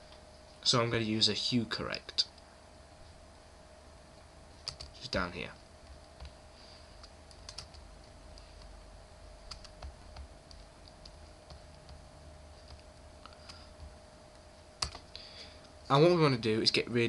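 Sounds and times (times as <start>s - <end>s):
low hum: 0.0s - 16.7s.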